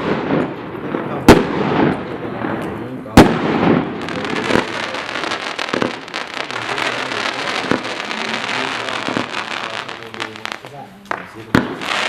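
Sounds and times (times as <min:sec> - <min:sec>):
firework bangs: 0:00.0 - 0:12.0
fireworks crackling: 0:00.0 - 0:12.0.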